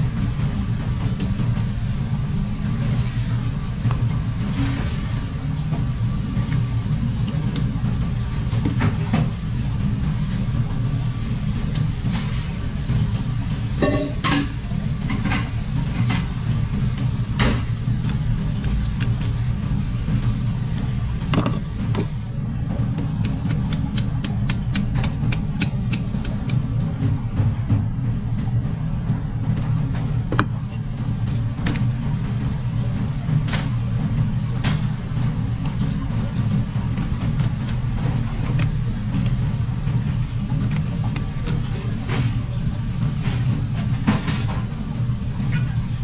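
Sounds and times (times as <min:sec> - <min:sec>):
low mechanical rumble: 0:00.0 - 0:46.0.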